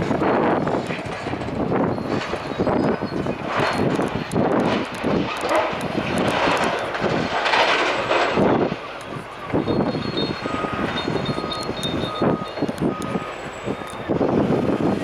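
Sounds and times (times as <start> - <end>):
heavy machinery engine under load: 0.0 - 15.0
debris crunching and falling: 2.1 - 14.6.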